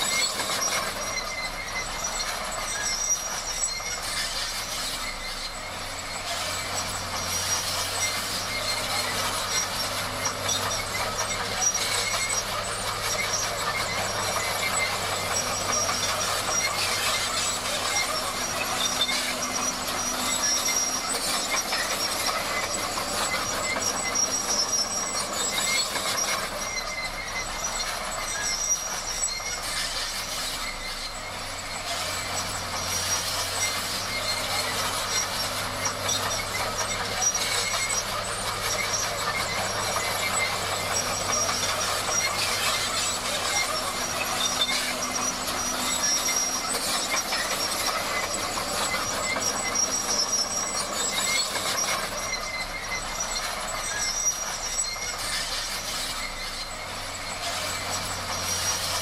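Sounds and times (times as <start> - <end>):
diesel engine low hum: 0.0 - 59.0
steel tracks clattering and squealing: 0.0 - 59.0.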